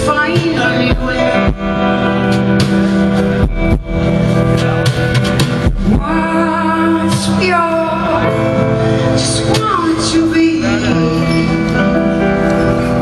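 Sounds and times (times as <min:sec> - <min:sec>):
live band playing: 0:00.0 - 0:13.0
sustained guitar chords: 0:00.0 - 0:13.0.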